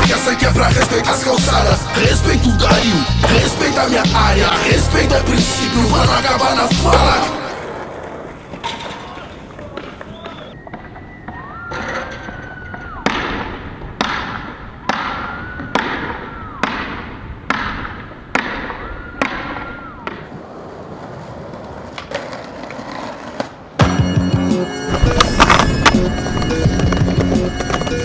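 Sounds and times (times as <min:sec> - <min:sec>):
skateboard clack: 0:00.0 - 0:04.7, 0:05.4 - 0:23.9, 0:24.9 - 0:28.0
skateboard rolling on pavement: 0:00.0 - 0:13.0, 0:18.0 - 0:28.0.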